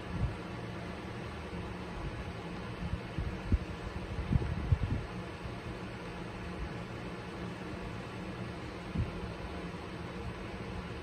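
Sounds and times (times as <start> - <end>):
vehicle cabin hum and hiss: 0.0 - 11.0.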